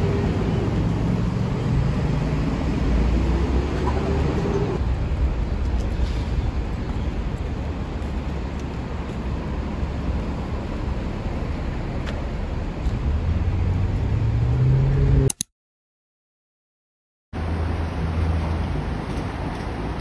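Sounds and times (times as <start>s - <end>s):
vehicle engine rumbling: 0.0s - 15.3s, 17.4s - 20.0s.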